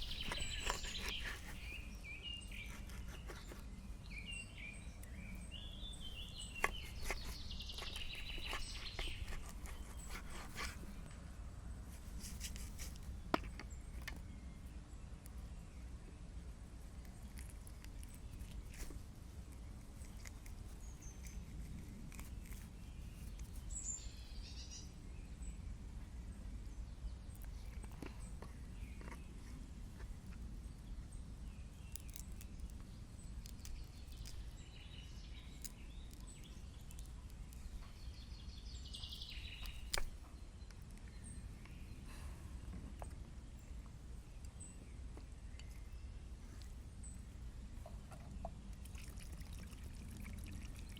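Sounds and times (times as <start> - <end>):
faint bird chirps: 0.0 - 11.2, 17.1 - 49.1.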